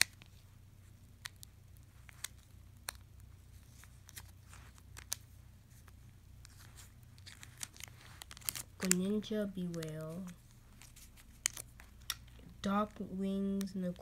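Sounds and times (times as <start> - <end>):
trading cards flipping: 0.0 - 13.7.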